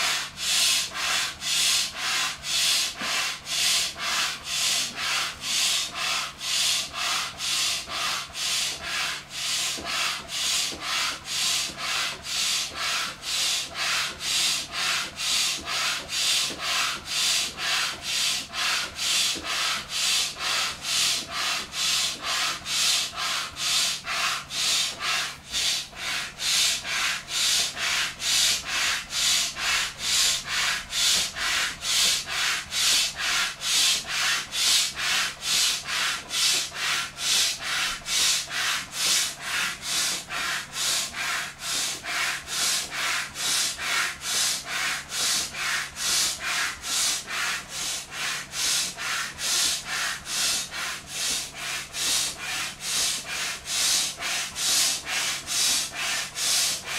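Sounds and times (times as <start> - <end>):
hand air pump hissing strokes: 0.0 - 56.9.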